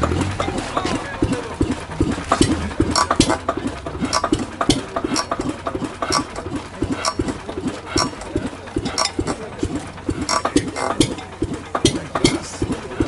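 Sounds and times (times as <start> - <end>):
diesel engine hand cranked chuffing: 0.0 - 13.0
sharp engine knock: 0.0 - 13.0.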